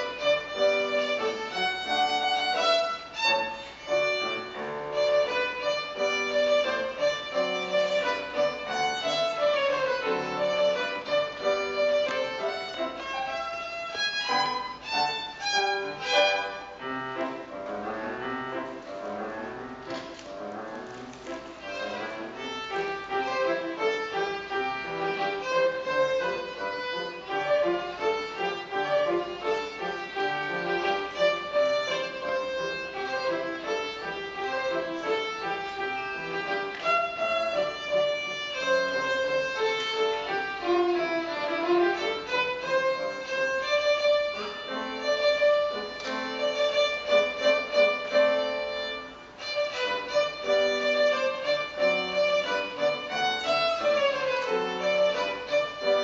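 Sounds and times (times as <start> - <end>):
piano accompaniment: 0.0 - 56.0
violin melody: 0.0 - 56.0.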